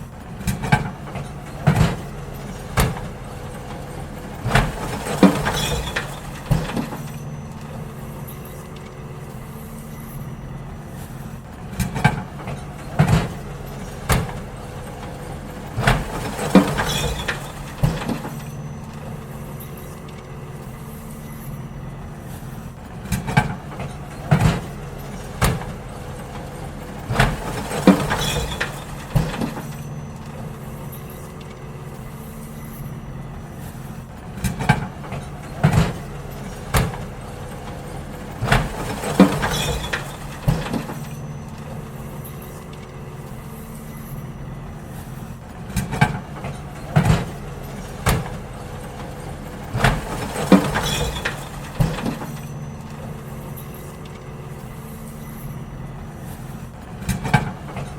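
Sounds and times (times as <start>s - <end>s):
wheelie bins knocking and banging: 0.0s - 44.0s, 44.7s - 57.9s
garbage truck engine running: 0.0s - 57.9s.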